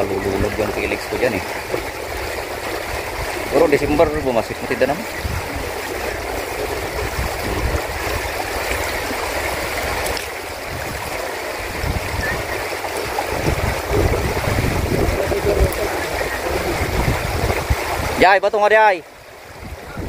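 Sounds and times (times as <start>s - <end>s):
low rumbling: 0.0s - 18.2s
river rushing over rocks: 0.0s - 20.0s.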